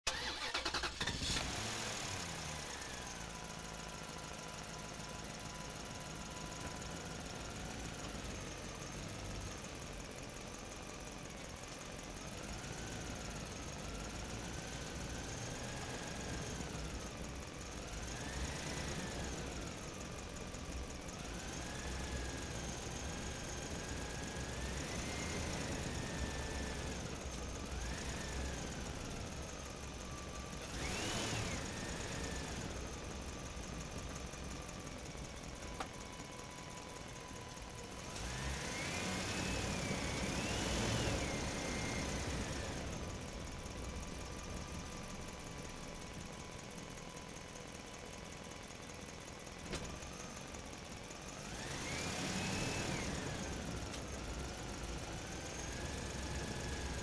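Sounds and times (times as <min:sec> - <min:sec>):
truck engine rumbling: 0:00.1 - 0:57.0.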